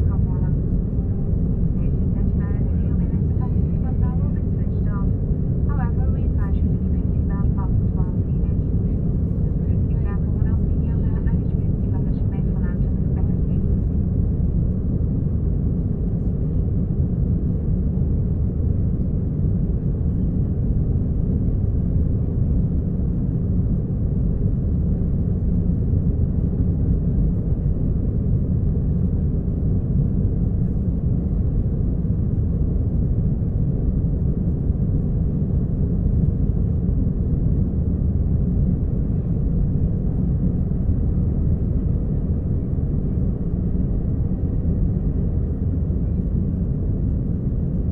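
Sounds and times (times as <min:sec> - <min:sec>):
aircraft engines rumbling: 0:00.0 - 0:47.9.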